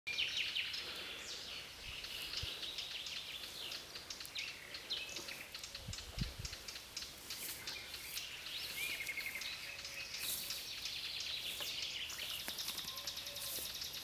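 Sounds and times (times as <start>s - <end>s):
birds chirping and singing: 0.1s - 14.0s.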